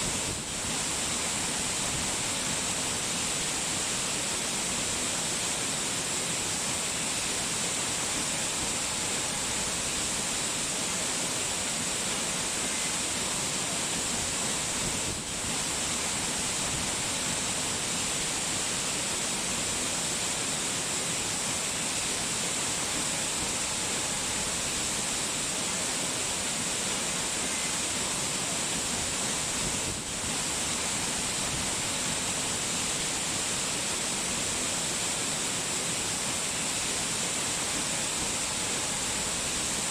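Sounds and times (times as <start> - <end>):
falling water hiss: 0.0 - 39.9.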